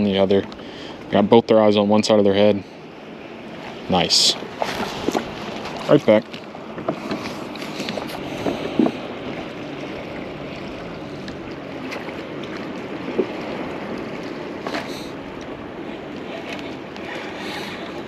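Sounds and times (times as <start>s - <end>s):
water washing around kayak: 0.0s - 18.0s
wind: 0.0s - 18.0s.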